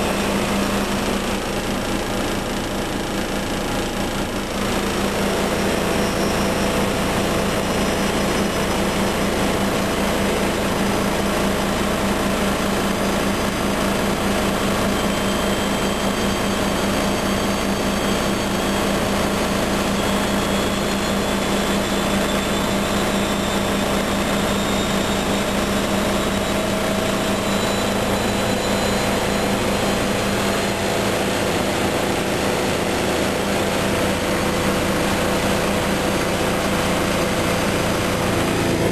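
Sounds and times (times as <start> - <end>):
high motor whine rising: 0.0 - 38.9
washing machine spinning: 0.0 - 38.9.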